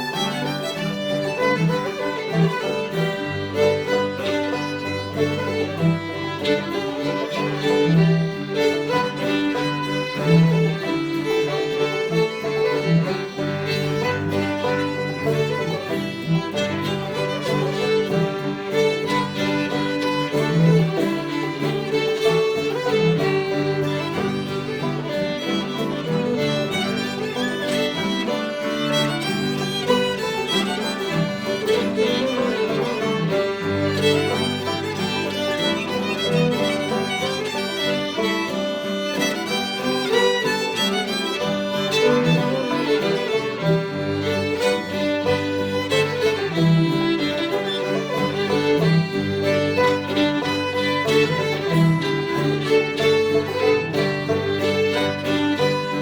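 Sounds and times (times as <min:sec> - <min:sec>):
string band playing fiddle tune: 0:00.0 - 0:56.0.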